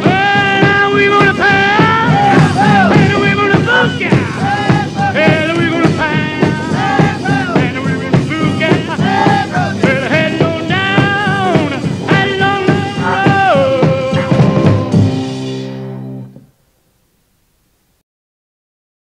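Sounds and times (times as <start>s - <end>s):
upbeat rock music: 0.0s - 16.4s.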